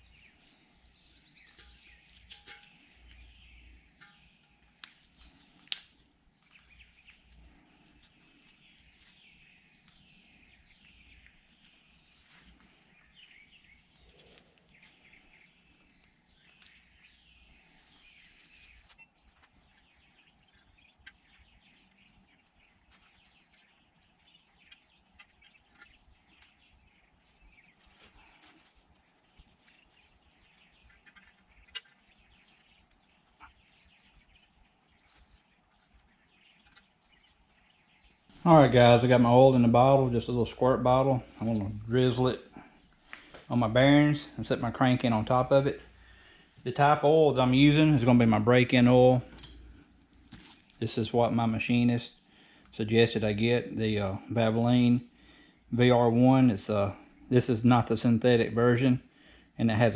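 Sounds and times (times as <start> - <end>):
faint birds chirping: 0.0 - 59.9.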